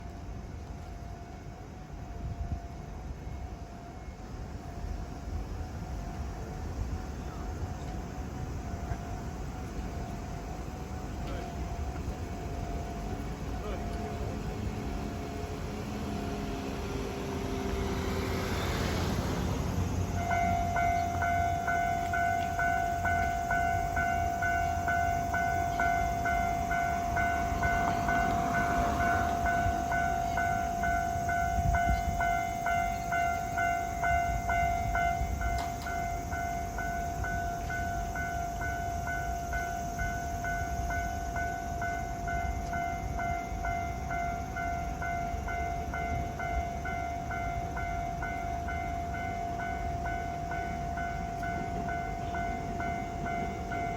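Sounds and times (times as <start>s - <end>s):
train rumbling: 0.0s - 53.9s
level crossing alarm ringing: 7.0s - 53.9s.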